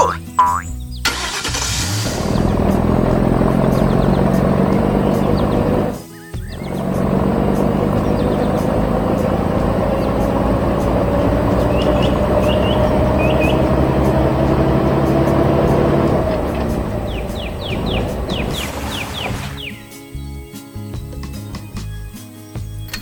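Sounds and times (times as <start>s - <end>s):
heavy vehicle engine running: 1.1s - 19.8s.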